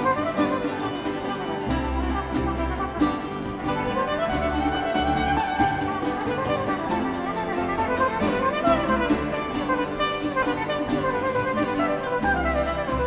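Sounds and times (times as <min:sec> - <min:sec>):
violin-like melody: 0:00.0 - 0:13.0.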